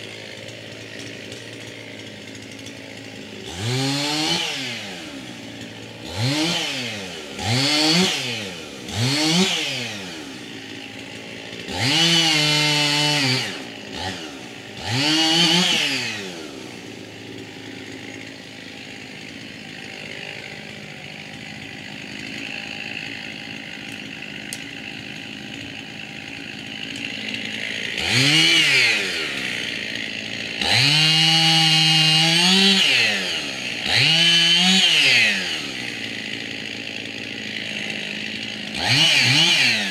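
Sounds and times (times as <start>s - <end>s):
chainsaw idling: 0.0s - 39.9s
chainsaw revving: 0.0s - 39.9s.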